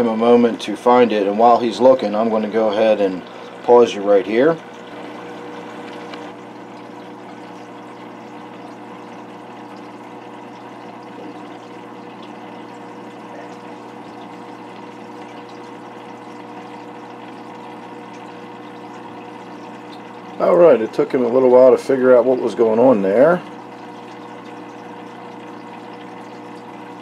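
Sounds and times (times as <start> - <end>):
aquarium filter water: 0.0 - 27.0.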